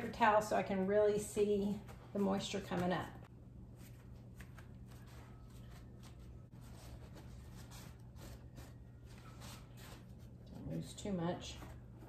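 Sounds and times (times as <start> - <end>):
low steady hum: 0.0 - 12.0
paper towels rustling: 1.2 - 12.0.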